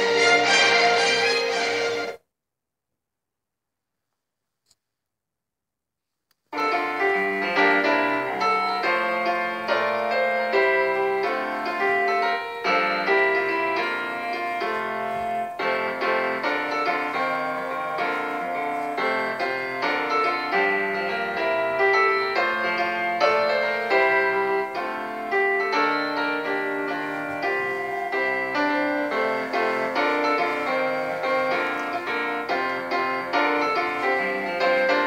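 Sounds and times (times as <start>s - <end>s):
piano music: 0.0s - 2.2s, 6.6s - 35.0s.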